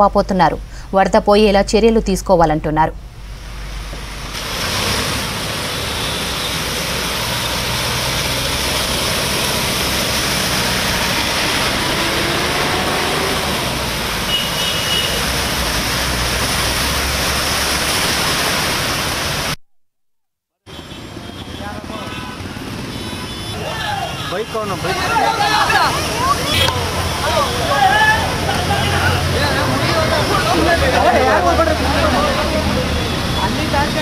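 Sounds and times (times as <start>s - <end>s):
vehicle engines running: 0.0s - 18.8s, 21.0s - 34.0s
tyres spraying floodwater: 3.3s - 19.6s, 20.7s - 34.0s.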